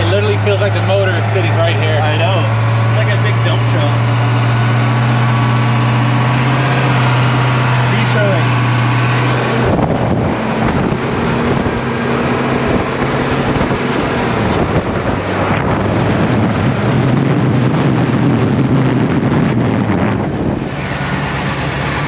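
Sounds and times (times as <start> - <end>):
truck diesel engine running: 0.0 - 22.0
wind rush on microphone: 0.0 - 22.0.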